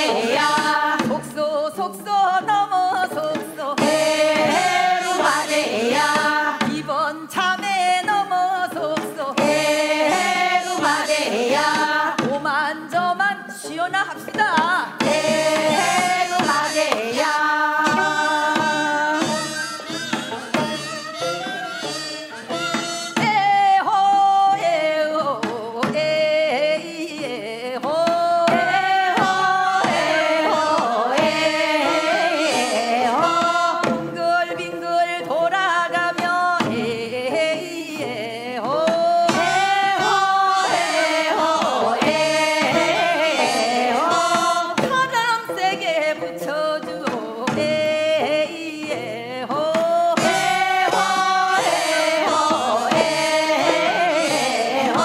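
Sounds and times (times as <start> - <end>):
drum and instrumental accompaniment: 0.0 - 55.0
group singing folk song: 0.0 - 55.0.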